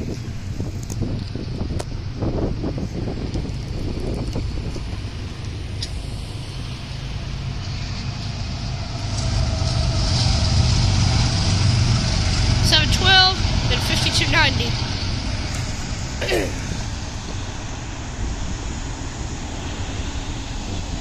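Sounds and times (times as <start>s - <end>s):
locomotive engine rumble: 0.0s - 21.0s
street traffic: 0.0s - 21.0s
wind buffeting microphone: 0.0s - 21.0s.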